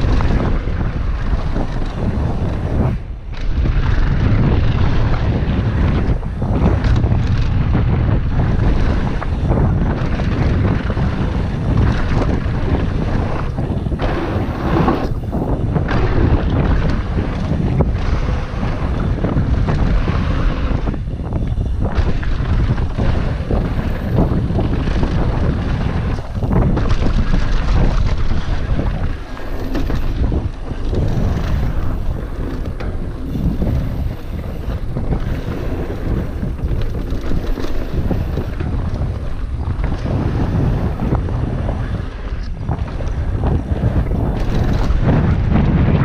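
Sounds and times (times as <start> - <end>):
bike tyres rumbling and rattling: 0.0 - 46.0
wind buffeting microphone: 0.0 - 46.0.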